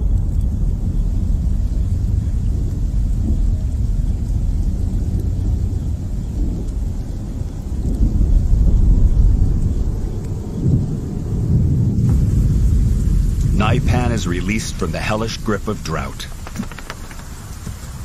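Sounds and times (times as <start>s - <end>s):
rolling thunder: 0.0s - 18.0s.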